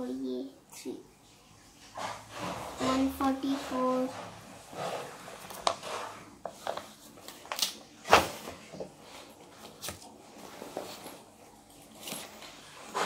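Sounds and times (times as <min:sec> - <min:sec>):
rustling of things moved: 0:01.5 - 0:13.0.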